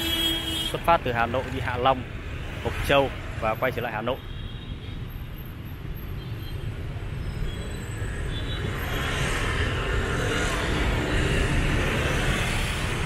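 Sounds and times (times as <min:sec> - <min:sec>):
passing motorbikes and cars: 0:00.0 - 0:04.2, 0:05.5 - 0:13.0.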